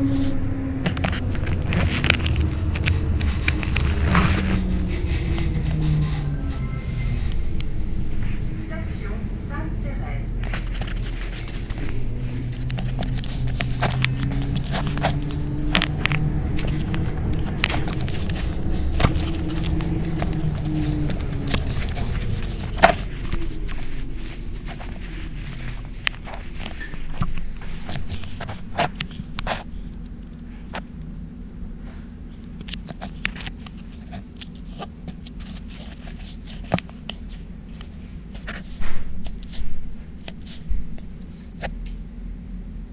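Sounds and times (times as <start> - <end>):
tram equipment humming: 0.0 - 42.9.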